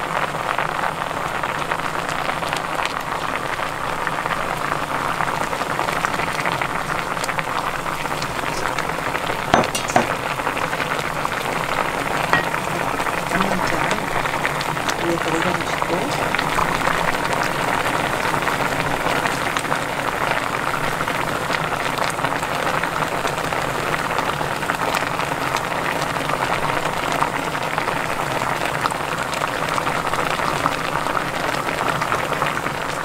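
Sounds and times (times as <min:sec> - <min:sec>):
broth bubbling in a pan: 0:00.0 - 0:33.0.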